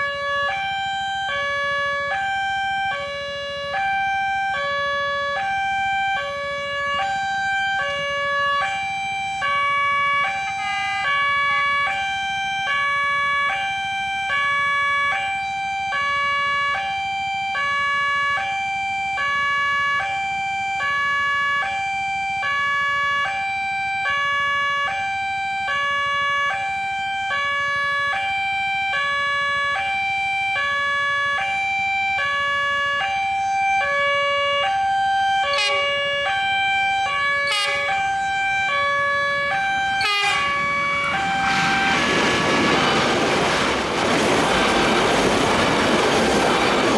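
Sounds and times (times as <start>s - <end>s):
two-tone hi-lo warning siren: 0.0s - 46.9s.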